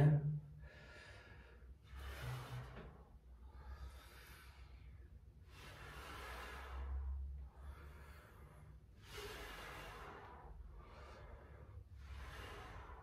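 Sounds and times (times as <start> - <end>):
person breathing hard: 0.5 - 13.0.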